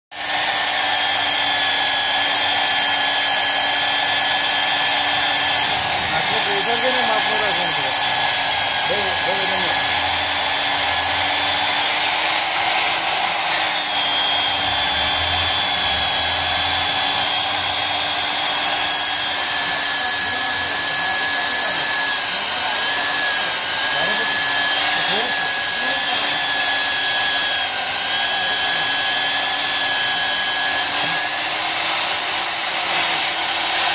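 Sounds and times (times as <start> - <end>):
core drill motor whining: 0.1 - 33.9.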